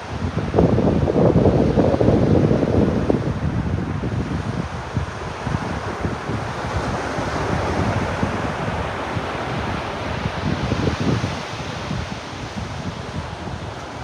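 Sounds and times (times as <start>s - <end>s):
ocean surf washing onto beach: 0.0s - 14.0s
wind buffeting microphone: 0.0s - 14.0s.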